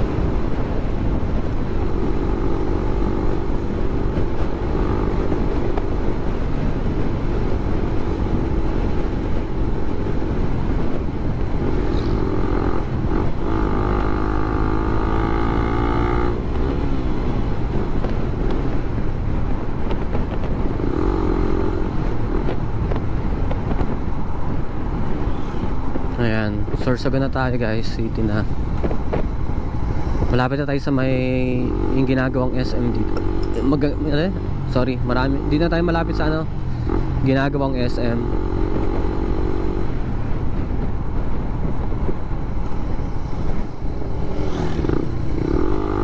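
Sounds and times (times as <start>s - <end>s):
motorcycle engine running: 0.0s - 24.2s, 30.4s - 46.0s
wind and road noise: 0.0s - 46.0s.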